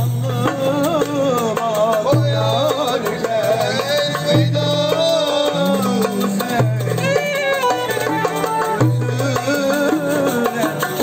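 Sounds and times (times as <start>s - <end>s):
frame drums with jingles: 0.0s - 11.0s
ornamented melody line: 0.0s - 11.0s.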